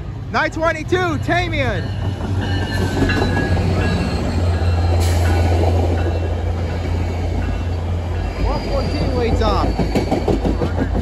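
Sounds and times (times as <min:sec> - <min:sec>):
locomotive engine hum: 0:00.0 - 0:11.0
train wheels rumbling on rails: 0:00.0 - 0:11.0.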